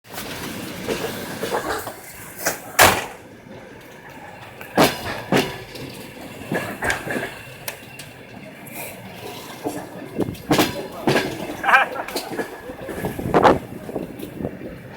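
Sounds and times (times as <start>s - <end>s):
train rumble: 0.1s - 14.9s.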